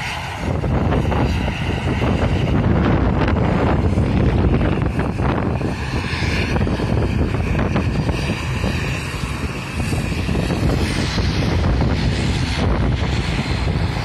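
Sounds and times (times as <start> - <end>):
airliner engines whining: 0.0 - 14.0
wind buffeting microphone: 0.0 - 14.0.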